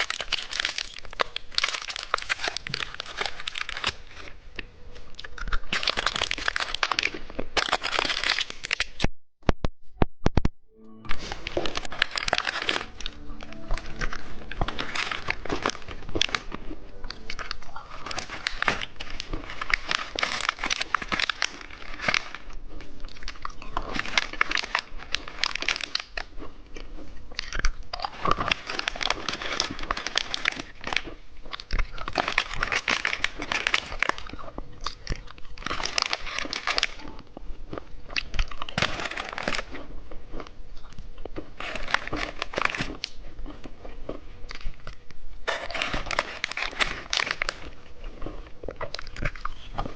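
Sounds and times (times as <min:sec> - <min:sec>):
plastic packaging crinkling: 0:00.0 - 0:09.1, 0:11.1 - 0:40.5, 0:41.2 - 0:43.9, 0:44.5 - 0:49.9.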